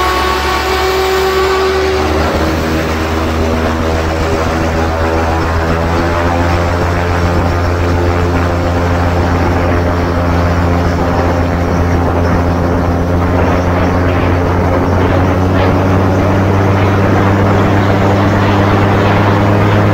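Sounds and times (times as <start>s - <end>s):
gyroplane engine and propeller drone: 0.0s - 19.9s
rushing air: 0.0s - 19.9s.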